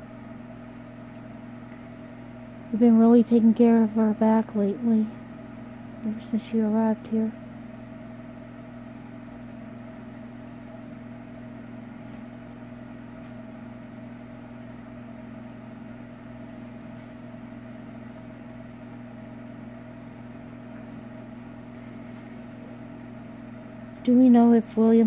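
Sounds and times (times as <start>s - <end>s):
low hum with pitched tones: 0.0s - 25.0s.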